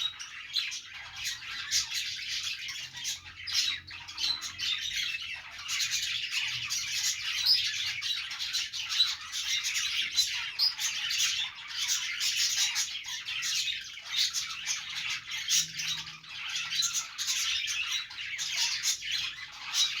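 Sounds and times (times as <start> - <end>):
budgerigars chattering and chirping: 0.0 - 20.0.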